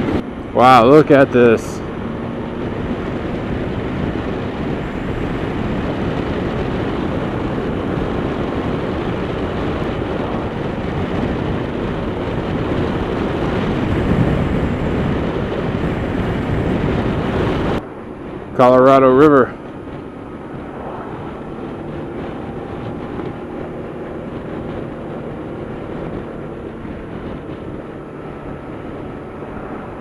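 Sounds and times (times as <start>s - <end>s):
motorcycle wind and road noise: 0.0s - 30.0s.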